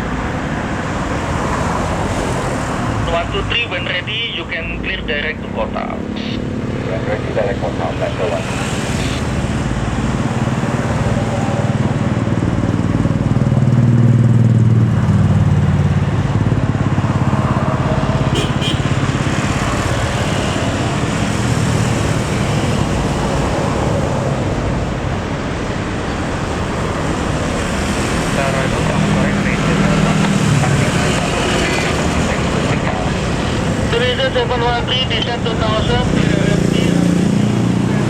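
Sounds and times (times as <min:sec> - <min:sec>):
low engine rumble: 0:00.0 - 0:38.0.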